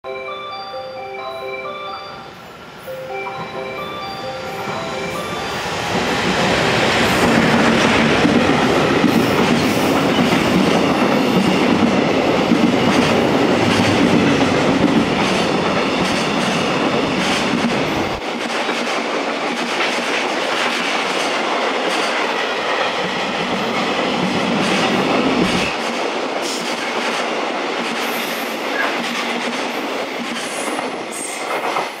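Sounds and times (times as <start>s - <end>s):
train rumbling past: 0.2s - 32.0s.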